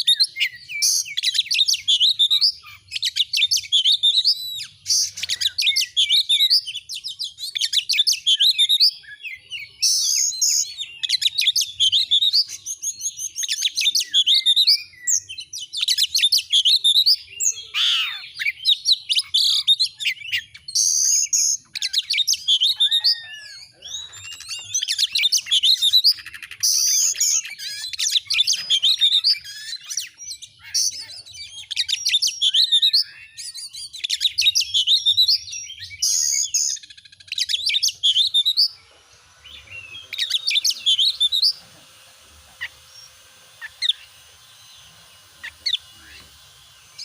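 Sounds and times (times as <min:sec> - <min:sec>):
bird singing varied whistles: 0:00.0 - 0:41.6
faint bird chirps: 0:00.0 - 0:41.6.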